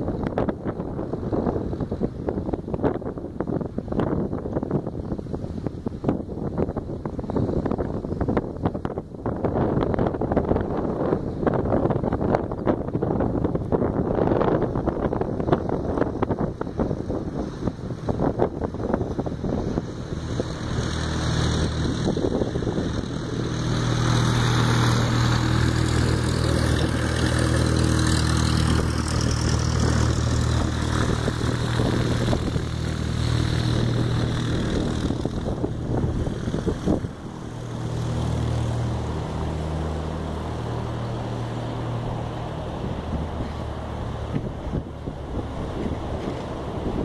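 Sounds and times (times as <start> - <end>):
light aircraft engine drone: 0.0 - 47.0.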